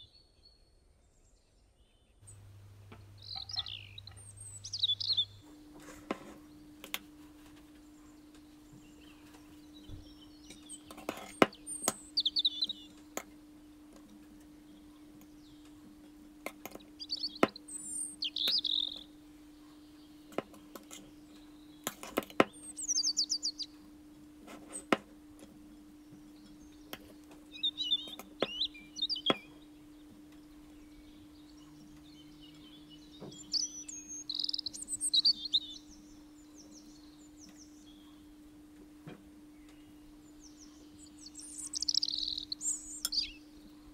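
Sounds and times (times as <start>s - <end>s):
small birds chirping: 0.0s - 43.9s
faint steady hum: 2.2s - 43.9s.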